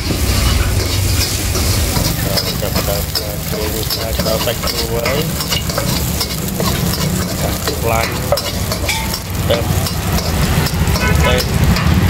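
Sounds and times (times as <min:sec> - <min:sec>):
hot oil sizzling: 0:00.0 - 0:12.0
metal spatula scraping a wok: 0:00.0 - 0:12.0.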